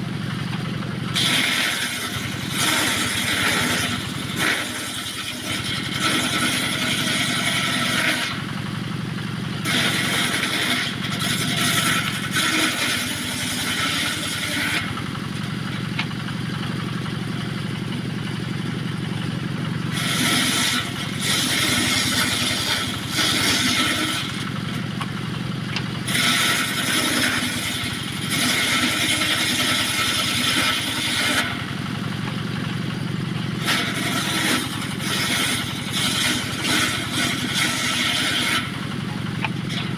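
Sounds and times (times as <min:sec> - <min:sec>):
engine droning: 0:00.0 - 0:39.9
circular saw cutting wood: 0:01.1 - 0:08.5, 0:09.6 - 0:16.1, 0:19.7 - 0:32.3, 0:33.5 - 0:39.9.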